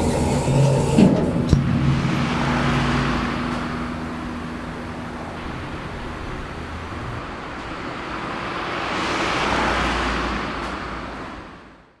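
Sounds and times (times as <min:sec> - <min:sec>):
vehicle passing: 0:00.0 - 0:11.8
road traffic noise: 0:00.0 - 0:12.0.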